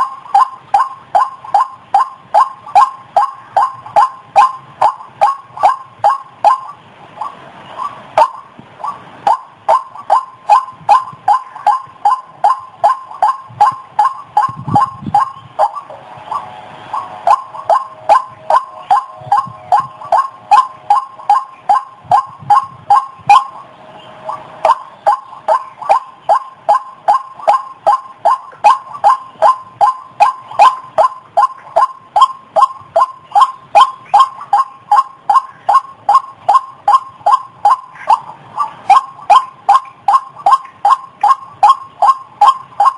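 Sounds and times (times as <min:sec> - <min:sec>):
waterhen calling sharp notes: 0:00.0 - 0:42.9.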